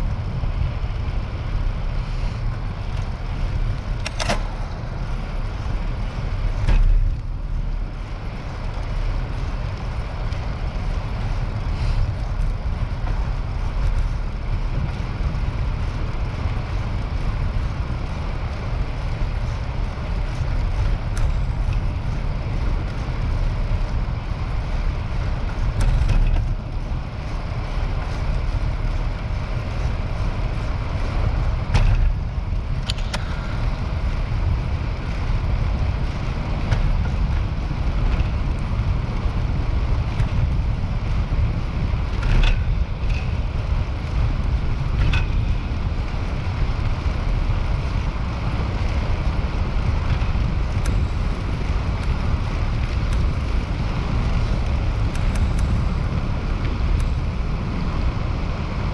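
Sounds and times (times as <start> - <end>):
tyre noise on pavement: 0.0 - 58.9
wind buffeting microphone: 0.0 - 58.9.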